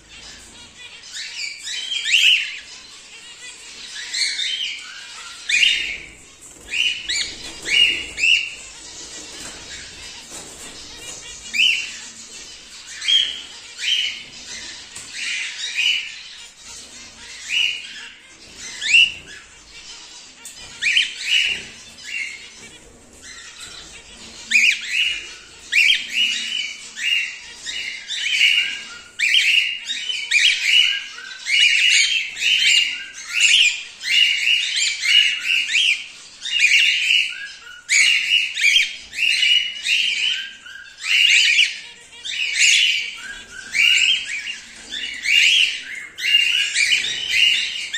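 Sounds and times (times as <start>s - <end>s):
cockatiels chirping: 0.0s - 47.9s.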